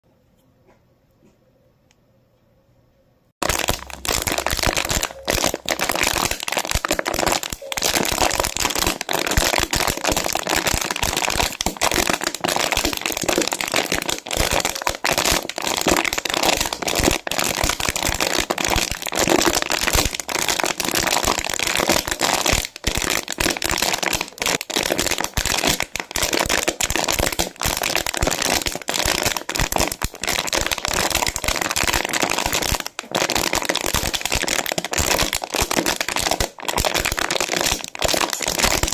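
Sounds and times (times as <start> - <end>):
plastic bottle crinkling: 3.4 - 38.9.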